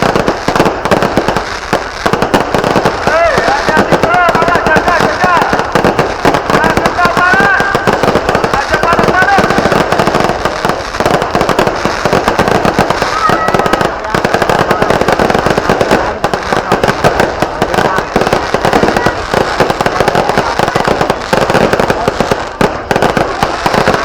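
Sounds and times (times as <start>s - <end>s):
firecrackers crackling: 0.0s - 24.0s.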